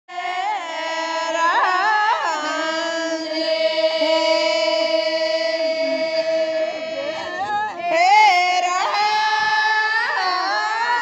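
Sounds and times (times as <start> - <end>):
woman singing folk song: 0.3 - 11.0.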